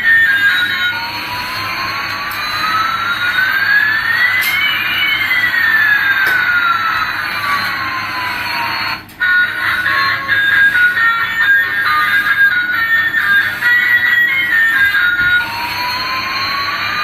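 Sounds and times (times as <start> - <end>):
toy jet engine sound effect: 0.0 - 17.0.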